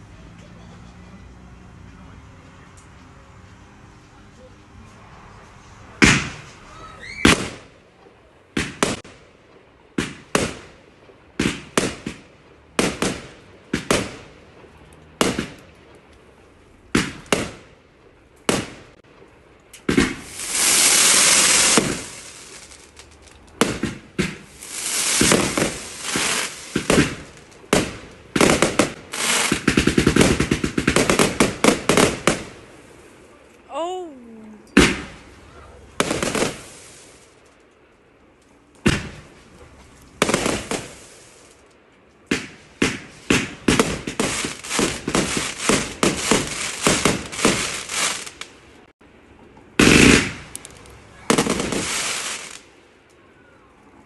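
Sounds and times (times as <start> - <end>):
fireworks crackling hiss: 1.8 - 33.3, 34.8 - 37.6, 38.8 - 48.9, 49.8 - 52.9
fireworks bangs: 5.9 - 33.3, 34.8 - 37.5, 38.8 - 48.9, 49.8 - 52.8.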